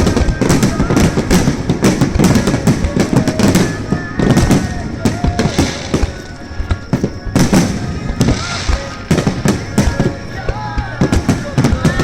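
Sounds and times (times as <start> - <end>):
fireworks bursting: 0.0 - 12.0
fireworks crackling: 0.0 - 12.0.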